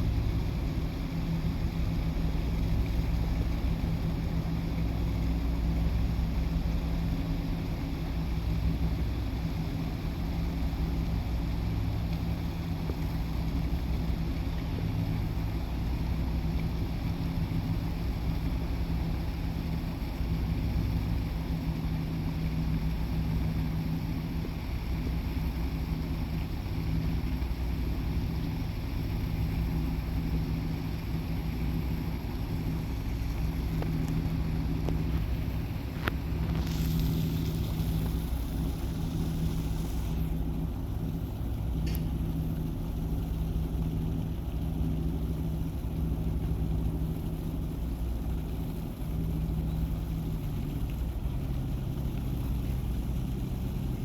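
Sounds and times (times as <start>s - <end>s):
ferry engines droning: 0.0s - 54.0s
wind and water hiss: 0.0s - 54.0s.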